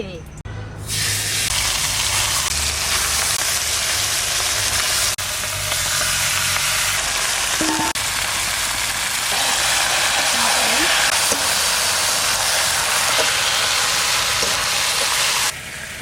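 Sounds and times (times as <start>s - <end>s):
meat sizzling in oil: 0.9s - 16.0s.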